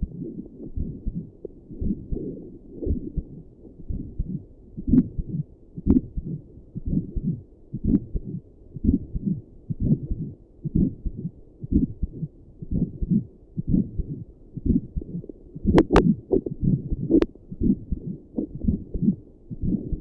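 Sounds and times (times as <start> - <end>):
heartbeat: 0.0 - 20.0.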